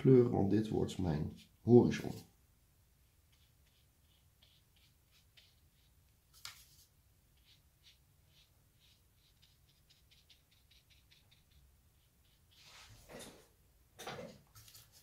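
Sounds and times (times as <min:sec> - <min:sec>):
paintbrush strokes on paper: 0:00.9 - 0:02.4, 0:03.0 - 0:13.5, 0:14.5 - 0:15.0.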